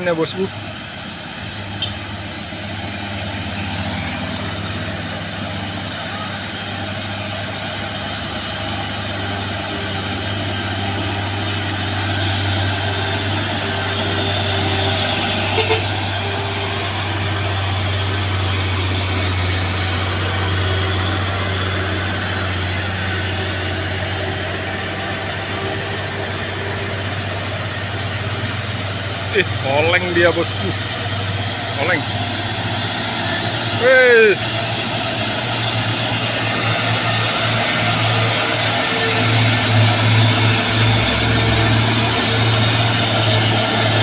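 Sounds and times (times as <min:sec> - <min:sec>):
diesel truck engines droning: 0:00.0 - 0:44.0
road noise: 0:00.0 - 0:44.0.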